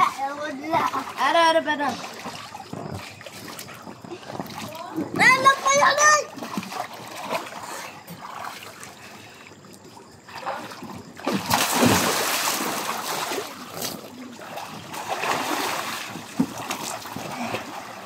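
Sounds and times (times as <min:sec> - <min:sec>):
water splashing in a pool: 0:00.0 - 0:18.0.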